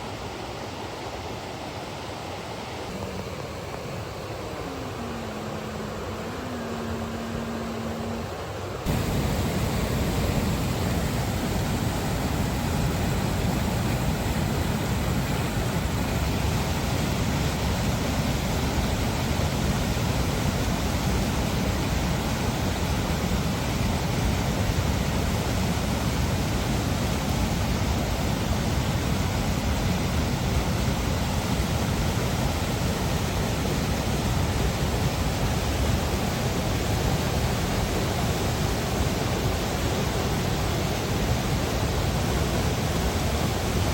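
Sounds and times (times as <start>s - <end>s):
water rushing over falls: 0.0s - 43.9s.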